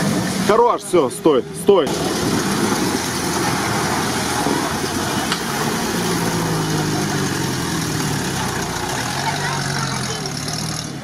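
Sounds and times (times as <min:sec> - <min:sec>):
off-road vehicle engine under load: 0:00.0 - 0:11.0
tyres spinning in dirt: 0:01.9 - 0:11.0.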